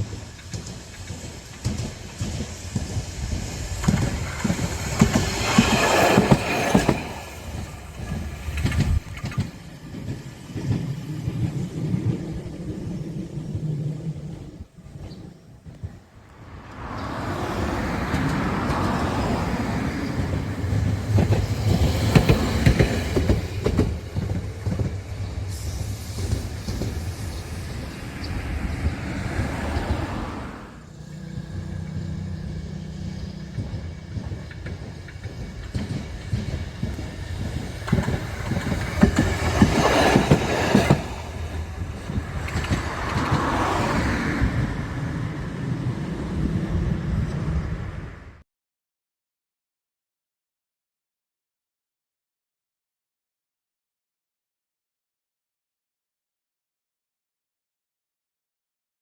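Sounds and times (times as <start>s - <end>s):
wheels clacking over rail joints: 0.0s - 47.7s.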